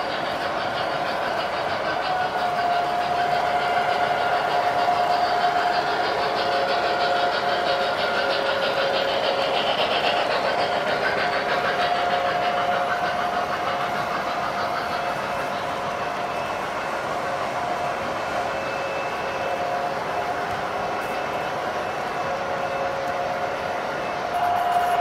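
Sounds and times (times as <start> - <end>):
model train wheels rumbling on track: 0.0 - 25.0.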